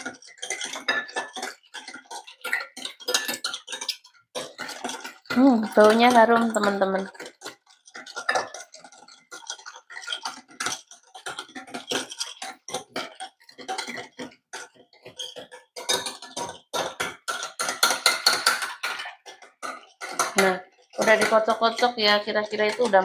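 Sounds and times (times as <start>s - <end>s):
wire whisk clinking in ceramic bowl: 0.0s - 23.0s.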